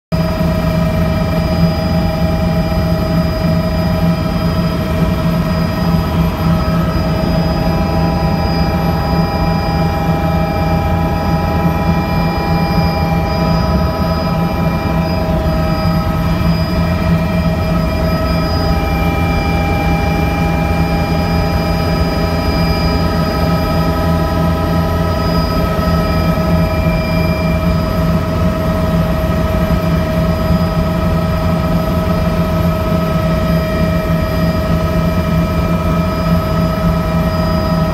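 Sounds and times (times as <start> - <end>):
helicopter engine and rotors droning: 0.1 - 37.9.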